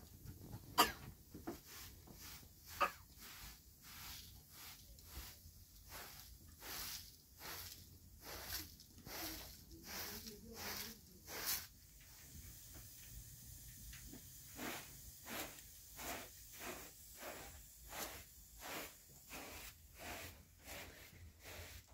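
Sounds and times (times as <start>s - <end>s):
broom sweeping carpet: 0.3s - 21.9s.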